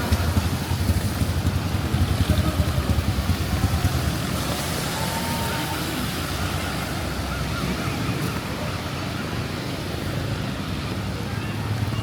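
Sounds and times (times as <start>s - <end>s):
tyres hissing on wet road: 0.0s - 12.0s
vehicle engines running: 0.0s - 12.0s
rain hiss: 0.1s - 10.9s.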